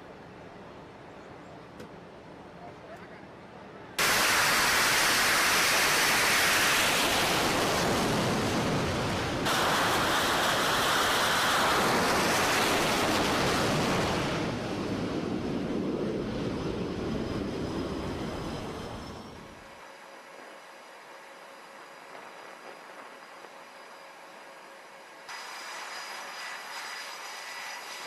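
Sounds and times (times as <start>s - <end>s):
jet engines roaring: 3.8s - 28.0s.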